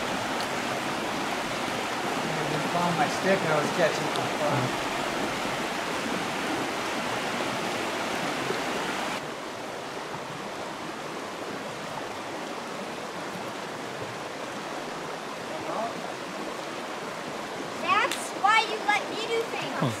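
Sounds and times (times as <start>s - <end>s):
creek water rushing over rapids: 0.0s - 20.0s.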